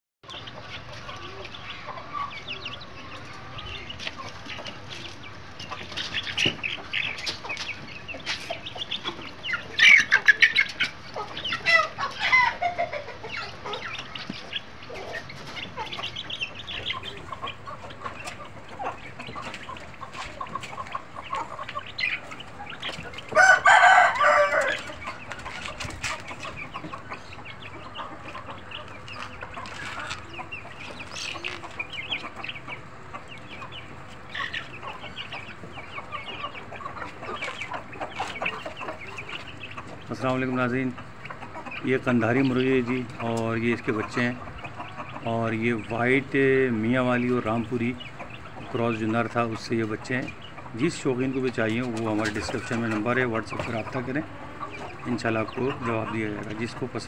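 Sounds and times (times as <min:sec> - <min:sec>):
chicks peeping: 0:00.2 - 0:57.0.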